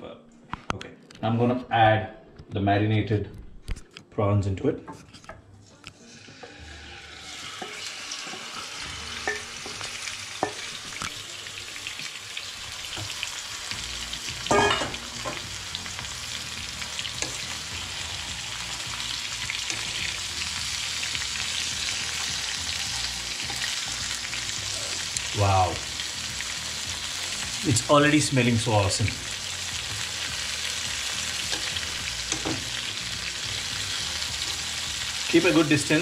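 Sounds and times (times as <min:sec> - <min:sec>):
prawns sizzling in a pan: 0:06.0 - 0:36.0.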